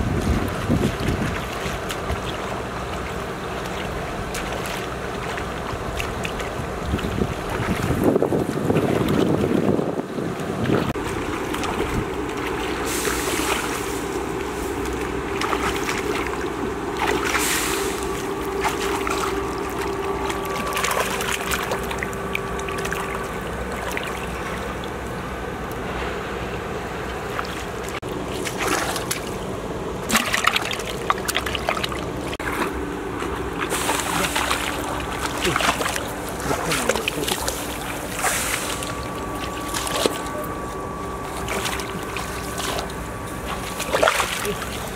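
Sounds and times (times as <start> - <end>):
hands splashing in muddy water: 0.2 - 9.6, 10.6 - 24.2, 30.1 - 40.5, 41.2 - 44.9.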